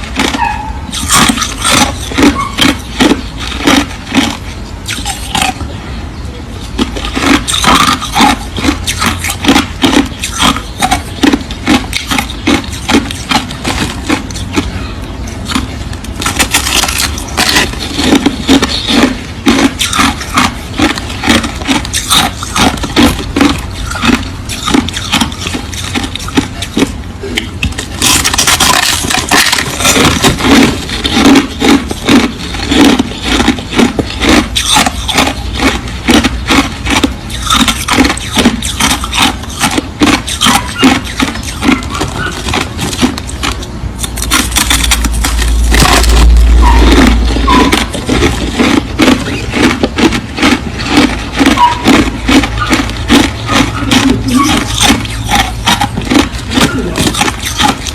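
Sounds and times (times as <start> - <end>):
chewing crushed ice: 0.0 - 5.8, 6.6 - 57.9.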